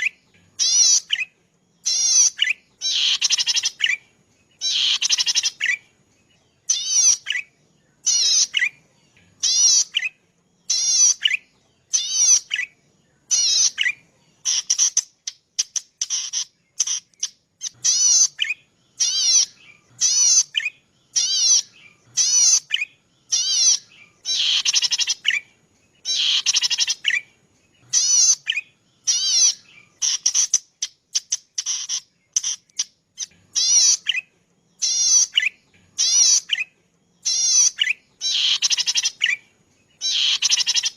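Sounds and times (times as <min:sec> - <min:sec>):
bird singing buzzy trills: 0:00.0 - 0:40.9.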